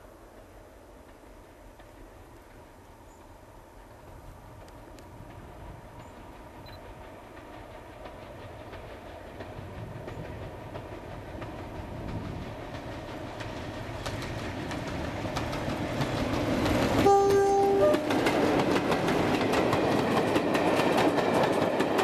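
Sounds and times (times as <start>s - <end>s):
diesel locomotive engine rumble: 0.1s - 22.0s
train wheels clicking over rail joints: 0.4s - 22.0s.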